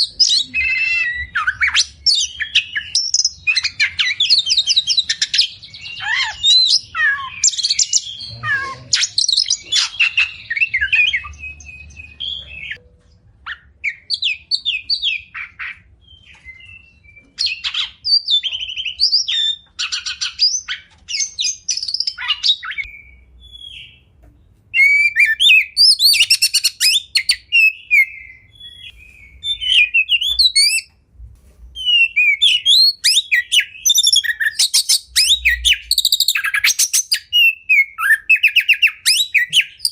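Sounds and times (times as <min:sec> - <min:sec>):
bird singing whistled phrases: 0:00.0 - 0:12.8, 0:13.5 - 0:24.1, 0:24.8 - 0:30.9, 0:31.8 - 0:39.9.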